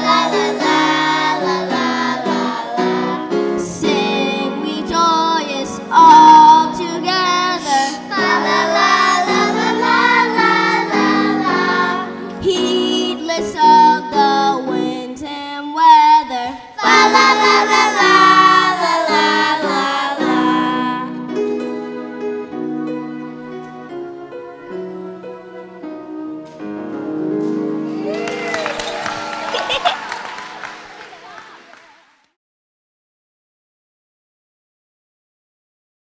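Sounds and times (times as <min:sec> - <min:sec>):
instrumental accompaniment: 0:00.0 - 0:15.2, 0:16.8 - 0:31.0
children singing: 0:00.0 - 0:31.4.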